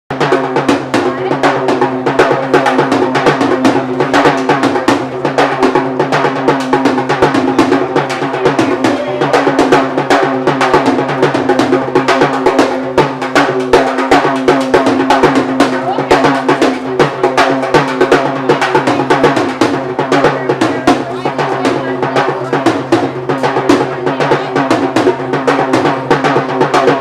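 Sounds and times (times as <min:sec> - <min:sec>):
fast driving drumming: 0:00.1 - 0:27.0.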